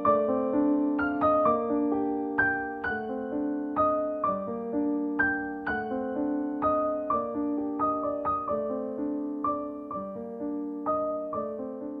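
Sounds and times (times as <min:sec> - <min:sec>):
slow solo piano piece: 0:00.0 - 0:12.0.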